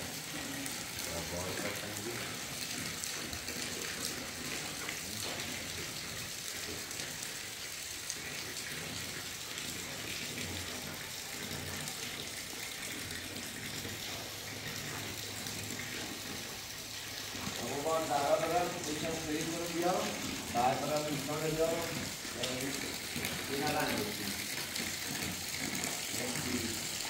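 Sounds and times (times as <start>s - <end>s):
rain on a metal roof: 0.0s - 27.0s.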